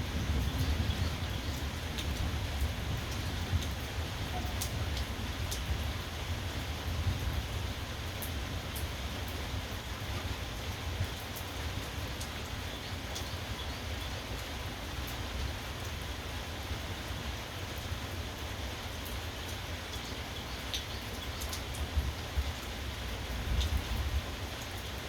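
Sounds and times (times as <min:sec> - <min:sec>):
raindrops ticking close by: 0:00.0 - 0:25.0
steady rainfall: 0:00.0 - 0:25.0.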